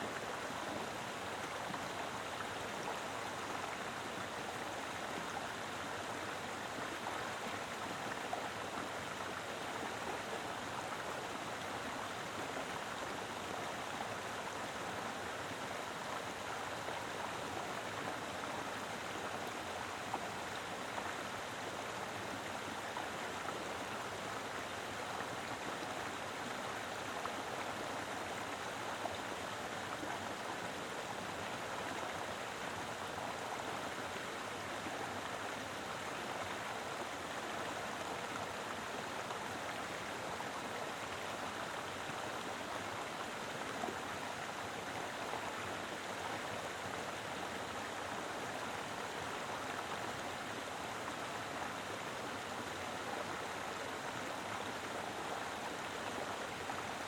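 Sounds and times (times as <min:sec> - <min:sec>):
river flowing over rocks: 0:00.0 - 0:57.0.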